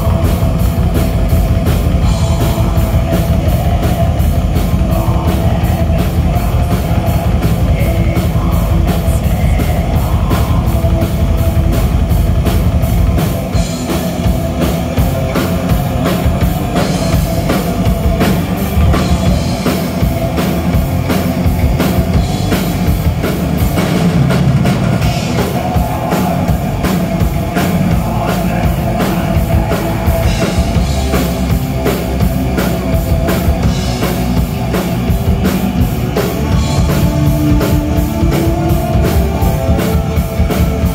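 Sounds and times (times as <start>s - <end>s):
distorted electric guitars: 0.0s - 40.9s
fast drumming: 0.0s - 40.9s.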